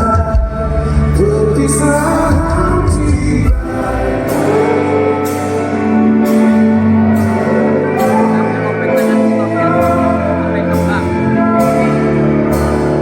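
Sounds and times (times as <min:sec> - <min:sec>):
band playing slow song: 0:00.0 - 0:13.0.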